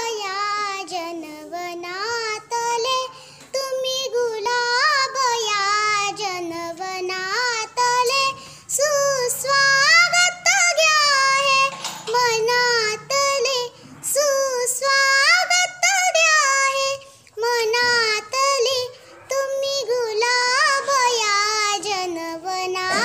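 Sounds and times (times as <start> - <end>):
girl singing solo: 0.0 - 23.0.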